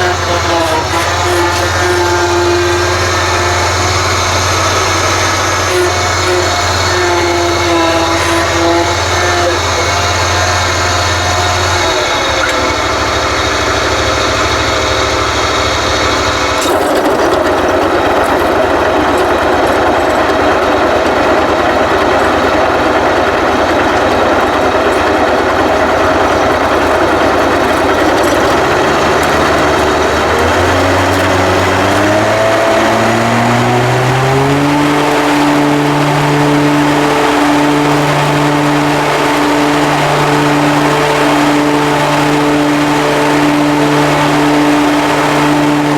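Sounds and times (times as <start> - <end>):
lawn mower engine running: 0.0 - 45.9.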